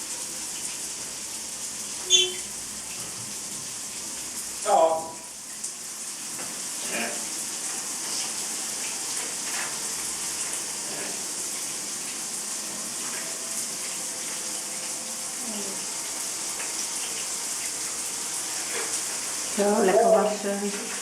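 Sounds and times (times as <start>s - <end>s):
shower spray hissing: 0.0s - 21.0s.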